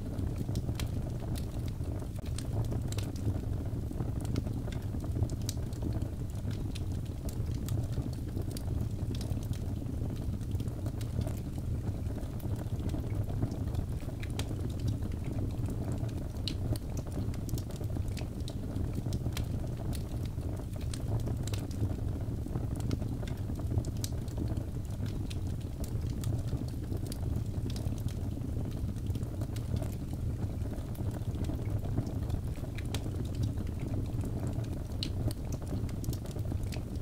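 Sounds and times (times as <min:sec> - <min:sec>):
low rumble of flames: 0:00.0 - 0:37.0
logs crackling and popping: 0:00.1 - 0:37.0.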